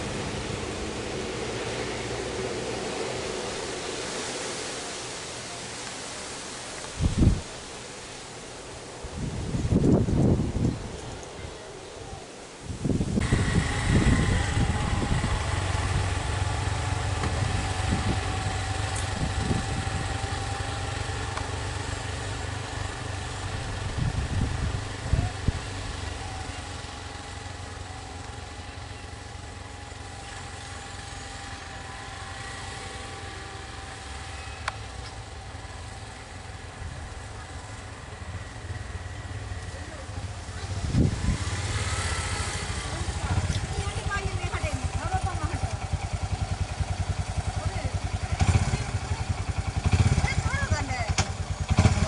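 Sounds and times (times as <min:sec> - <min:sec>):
vehicle engines idling: 0:00.0 - 0:52.0.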